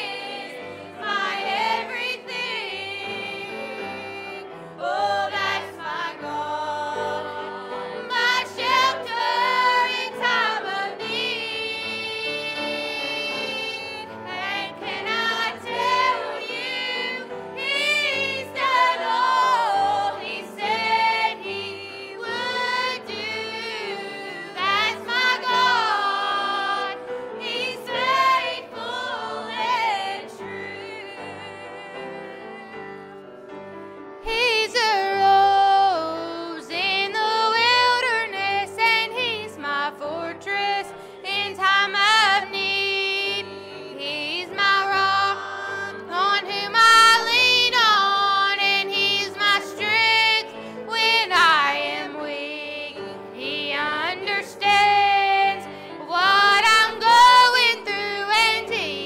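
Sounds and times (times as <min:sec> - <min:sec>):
group singing a gospel song: 0:00.0 - 0:33.4, 0:34.3 - 0:59.0.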